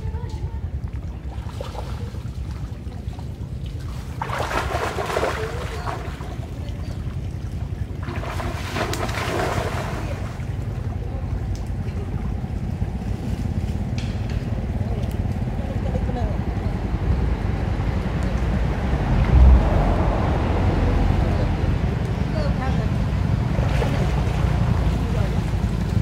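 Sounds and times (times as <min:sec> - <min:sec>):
water splashing and churning: 0:00.0 - 0:13.9, 0:18.6 - 0:26.0
steady low rumble: 0:00.0 - 0:26.0.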